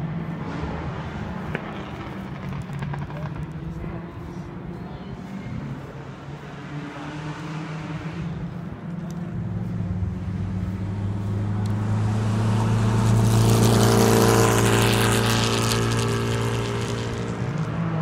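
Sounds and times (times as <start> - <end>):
race car engine approaching: 0.0 - 18.0.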